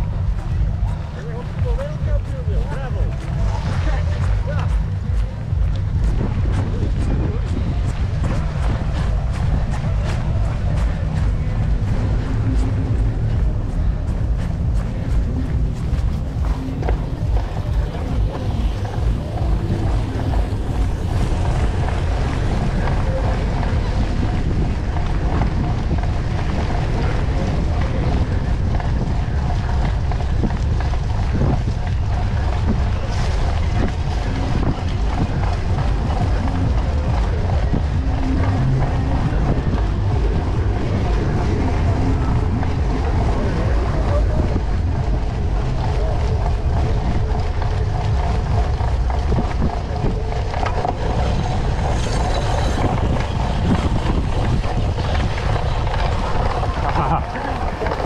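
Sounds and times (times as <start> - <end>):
bike drivetrain rattling: 0.0 - 58.0
tyres crunching through wet sand: 0.0 - 58.0
wind buffeting microphone: 0.0 - 58.0.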